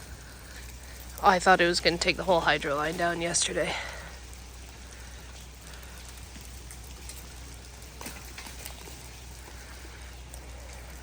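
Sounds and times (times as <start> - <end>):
patter of falling drops: 0.0 - 11.0.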